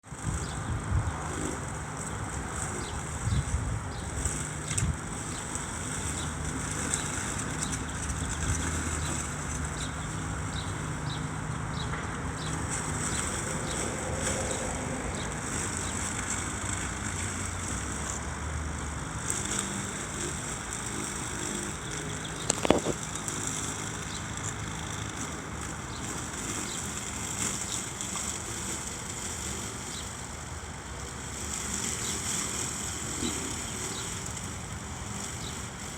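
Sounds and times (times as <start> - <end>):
electric lawn mower humming: 0.0 - 35.9.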